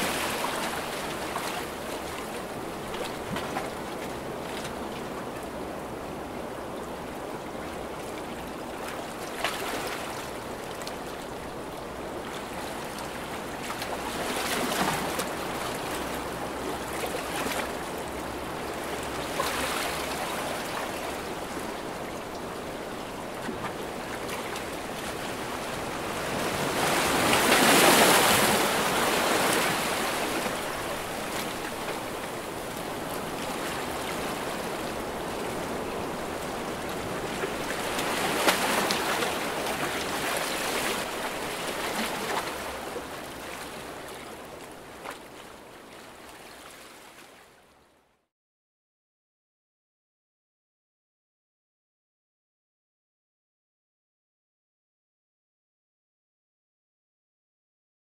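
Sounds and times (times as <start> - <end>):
sea waves washing on shore: 0.0 - 47.4.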